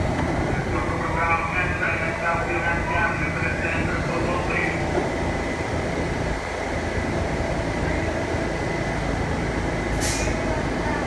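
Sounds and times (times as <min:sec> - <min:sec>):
subway car equipment humming: 0:00.0 - 0:11.0.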